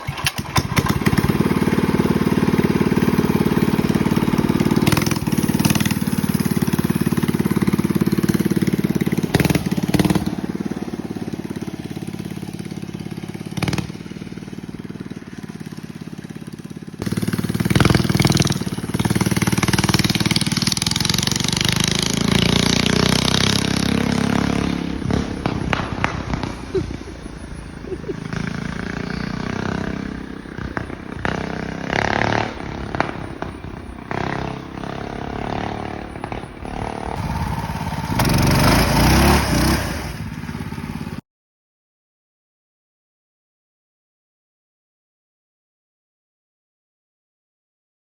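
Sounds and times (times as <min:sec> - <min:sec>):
small engine revving: 0:00.0 - 0:41.2.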